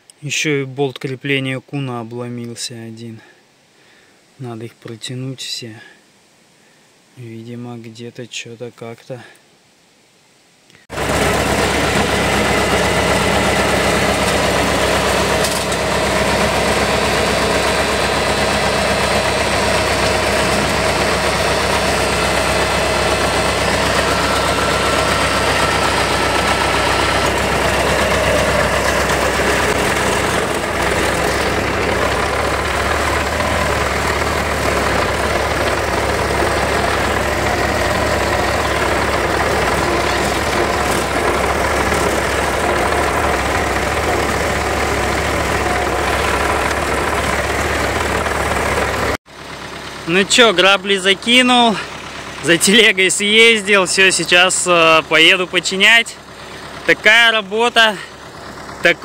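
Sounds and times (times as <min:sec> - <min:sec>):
tractor diesel engine running: 0:10.9 - 0:59.0.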